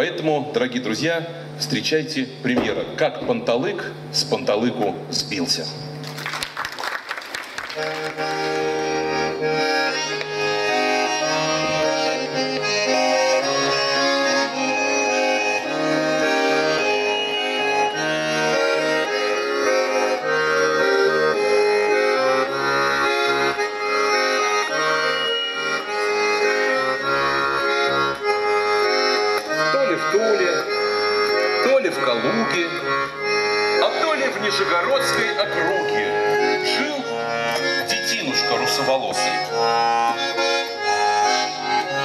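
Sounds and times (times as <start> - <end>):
button accordion playing a tune: 7.3 - 42.0.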